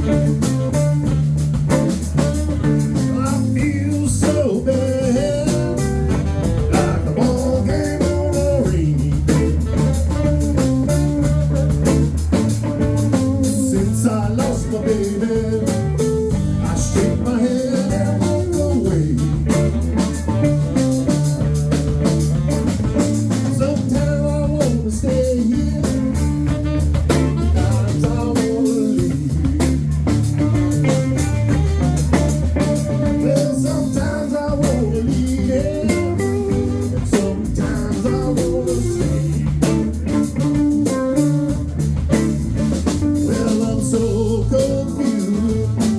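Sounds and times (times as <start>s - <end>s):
drum kit beat: 0.0s - 45.9s
guitar: 0.0s - 45.9s
live band playing: 0.0s - 45.9s.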